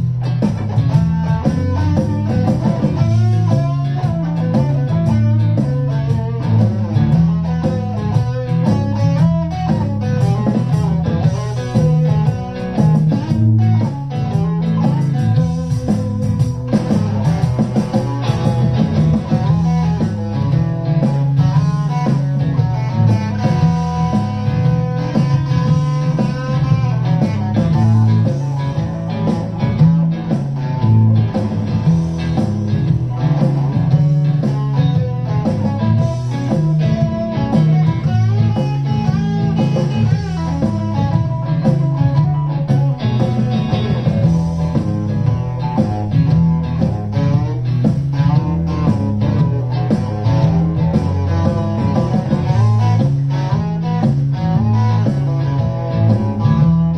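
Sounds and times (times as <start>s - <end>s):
electric guitar riffs: 0.0s - 56.9s.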